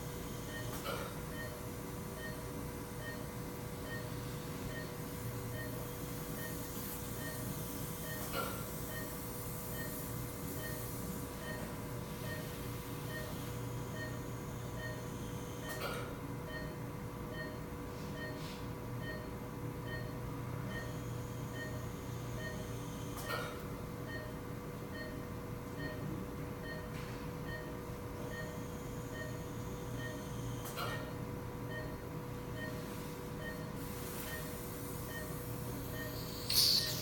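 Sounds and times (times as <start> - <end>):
equipment hum: 0.0 - 37.0
patient monitor beeping: 0.2 - 37.0.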